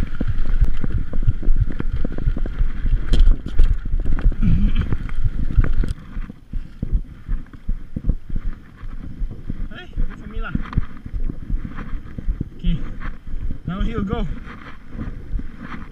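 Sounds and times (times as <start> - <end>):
bike knocks and rattles: 0.0 - 15.9
wind noise on microphone: 0.0 - 15.9.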